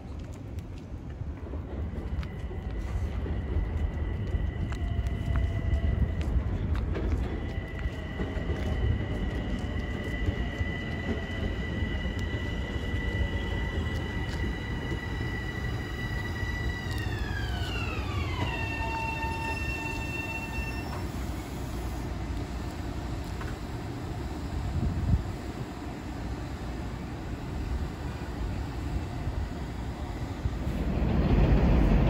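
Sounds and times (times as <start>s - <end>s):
train cars rumbling: 0.0s - 32.0s.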